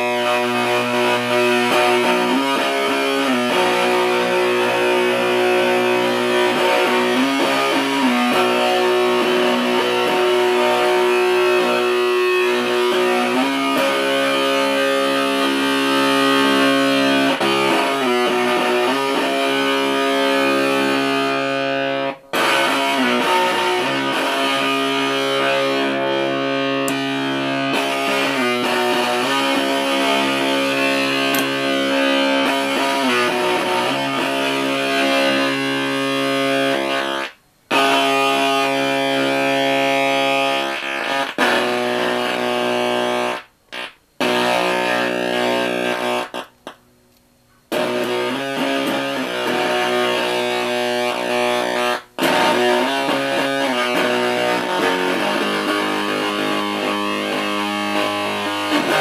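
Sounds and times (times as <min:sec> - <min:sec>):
fuzzy electric guitar chords: 0:00.0 - 0:46.8, 0:47.6 - 0:59.0.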